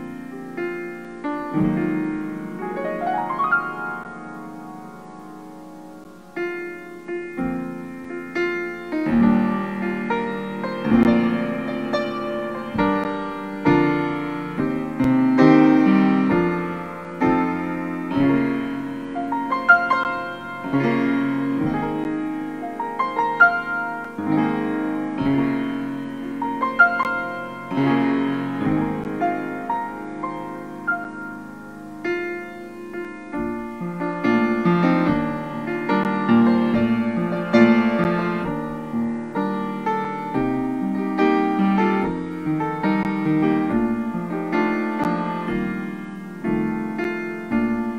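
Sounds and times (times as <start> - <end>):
grand piano playing: 0.0 - 47.9.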